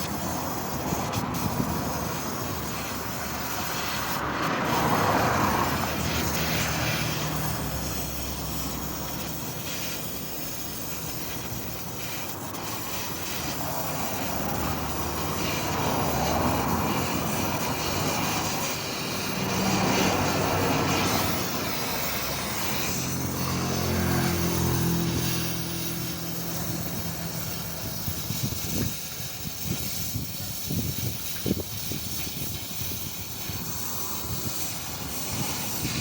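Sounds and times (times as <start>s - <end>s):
car engine and exhaust: 0.0s - 36.0s
road and wind noise: 0.0s - 36.0s.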